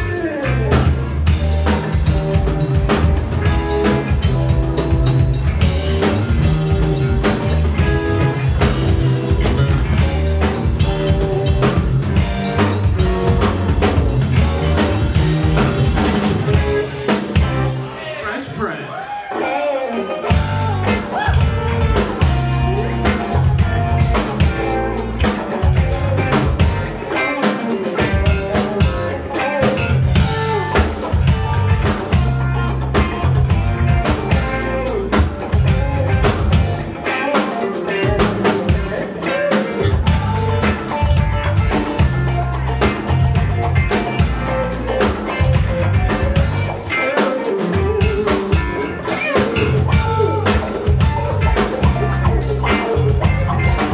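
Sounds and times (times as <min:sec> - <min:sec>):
drum kit beat: 0:00.0 - 0:18.8, 0:20.2 - 0:53.9
bass: 0:00.0 - 0:19.5, 0:20.1 - 0:53.9
guitar: 0:00.0 - 0:53.9.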